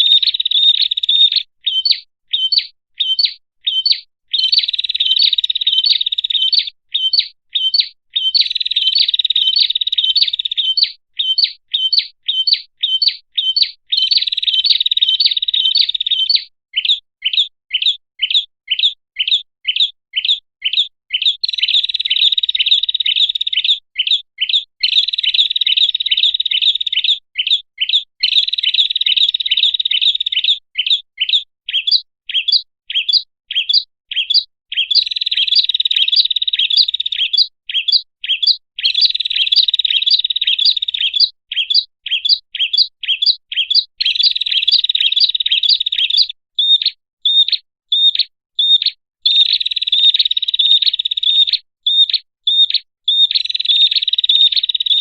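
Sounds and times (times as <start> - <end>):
bird chirping fast and high: 0.0 - 55.0.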